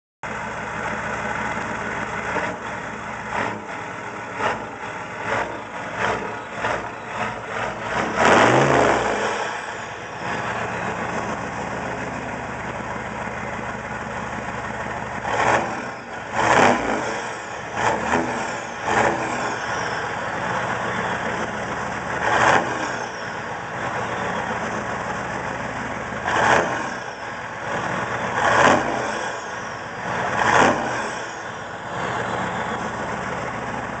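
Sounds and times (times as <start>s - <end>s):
diesel engine idling and revving: 0.2s - 34.0s.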